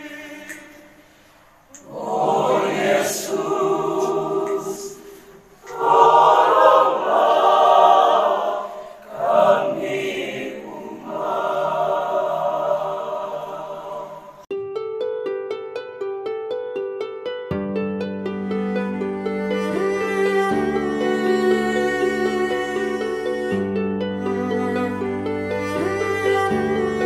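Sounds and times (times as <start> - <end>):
choir singing: 0.0 - 1.1, 1.7 - 14.5, 18.8 - 27.0.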